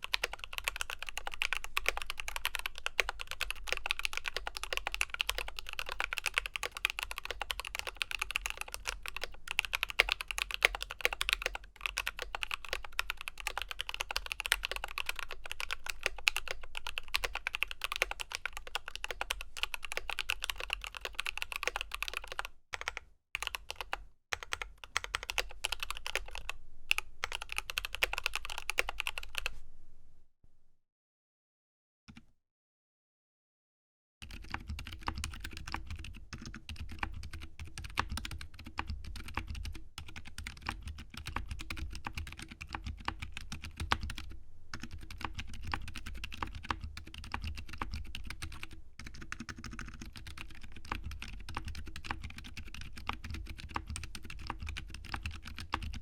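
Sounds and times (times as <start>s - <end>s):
mechanical keyboard typing: 0.0s - 29.5s, 34.2s - 56.0s.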